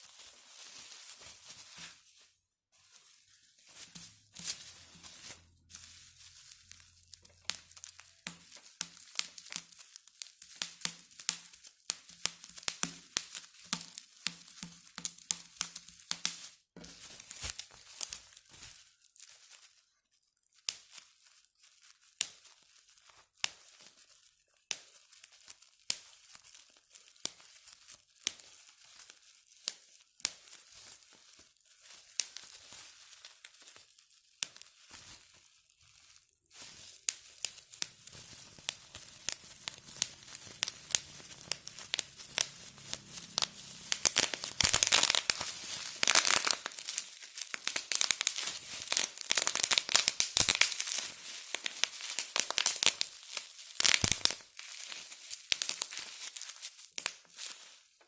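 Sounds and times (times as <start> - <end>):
bubble wrap popping: 0.0 - 58.0
plastic crinkling: 0.0 - 58.0.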